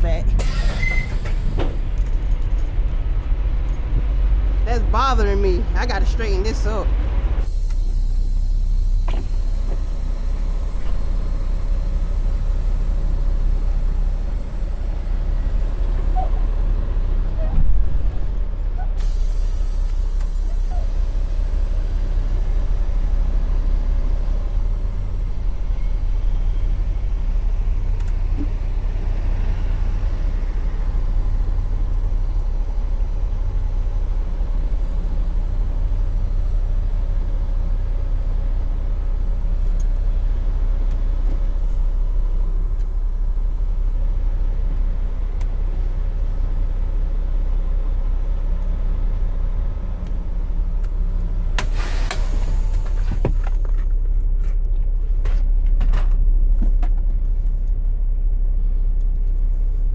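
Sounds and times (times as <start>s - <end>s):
truck diesel engine rumbling: 0.0s - 59.9s.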